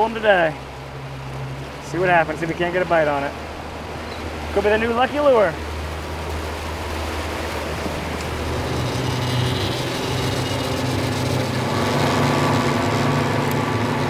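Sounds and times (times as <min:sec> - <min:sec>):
outboard motor running: 0:00.0 - 0:14.0
wake water rushing: 0:00.0 - 0:14.0.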